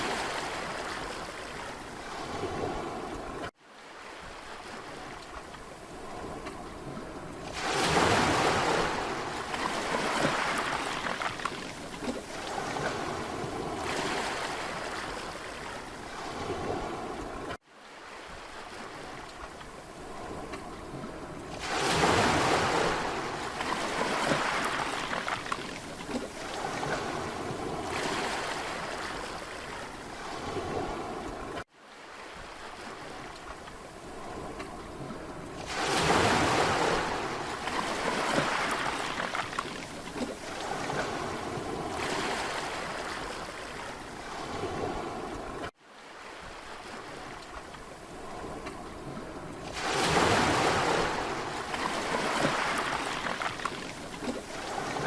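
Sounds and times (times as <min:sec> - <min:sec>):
surf washing: 0:00.0 - 0:55.0.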